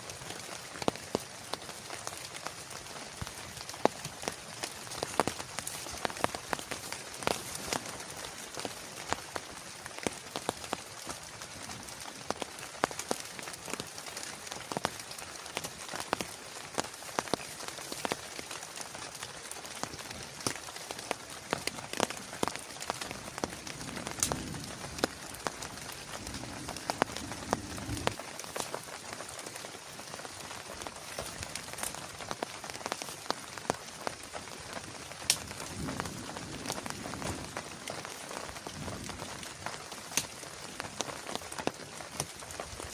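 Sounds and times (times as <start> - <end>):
rain drops tapping on surface: 0.0 - 42.9.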